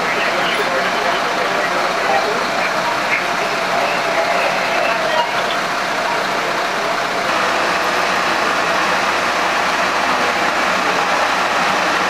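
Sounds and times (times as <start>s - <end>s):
constant rushing noise: 0.0s - 12.0s
fire engine idling: 0.0s - 12.0s.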